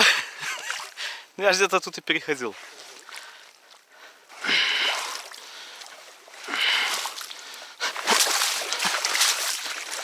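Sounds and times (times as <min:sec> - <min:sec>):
person wading through water: 0:00.3 - 0:01.2, 0:02.5 - 0:10.0.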